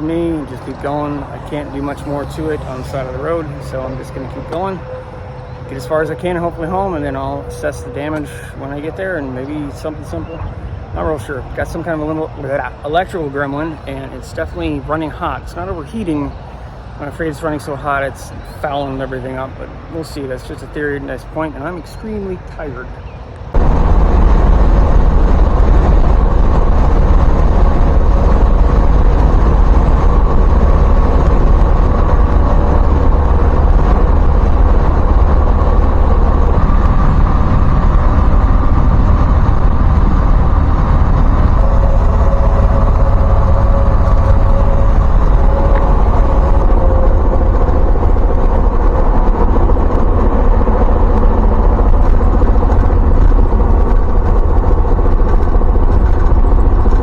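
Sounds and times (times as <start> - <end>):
car driving rumble: 0.0 - 15.5, 23.5 - 57.0.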